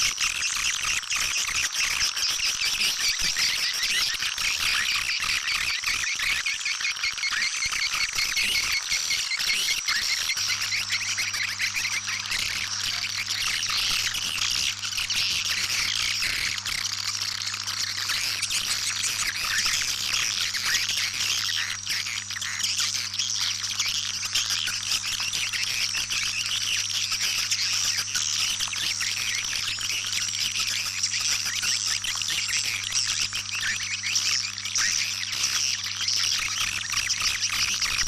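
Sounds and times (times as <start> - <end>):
swiftlets twittering: 0.0 - 38.0.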